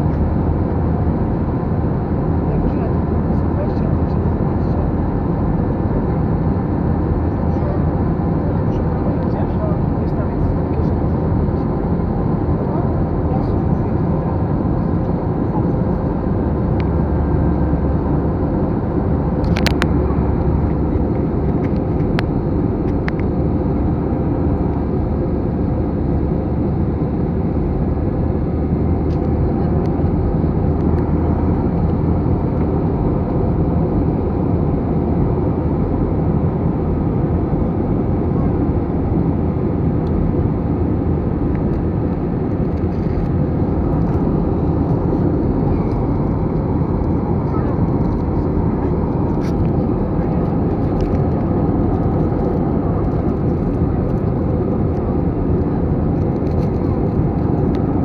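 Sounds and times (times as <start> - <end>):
aircraft cabin engine noise: 0.0 - 58.0.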